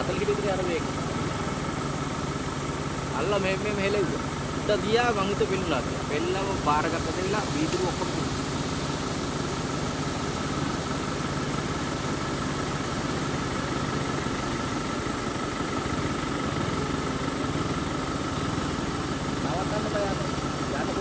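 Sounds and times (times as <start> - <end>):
faint steady whine: 0.0 - 21.0
vehicle engine idling: 0.0 - 21.0.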